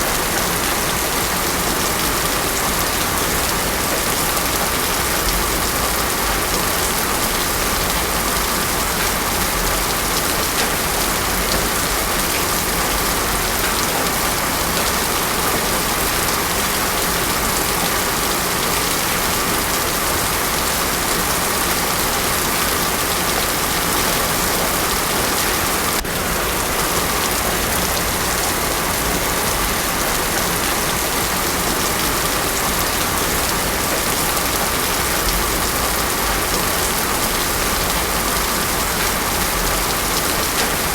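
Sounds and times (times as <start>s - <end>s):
heavy rain on hard surface: 0.0s - 40.9s.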